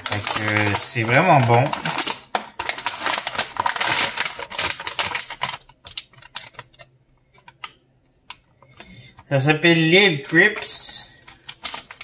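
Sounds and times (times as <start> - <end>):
foil snack bag crinkling: 0.0 - 6.9, 8.3 - 12.0.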